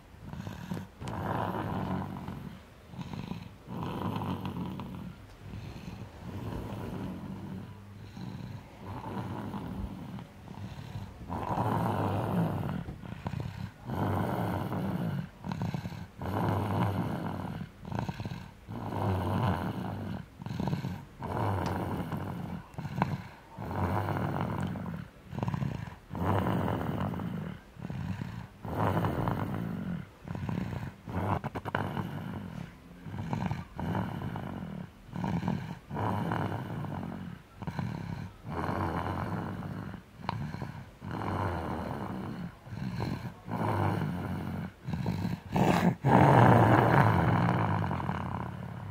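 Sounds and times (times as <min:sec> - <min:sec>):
snoring: 0:00.0 - 0:48.9.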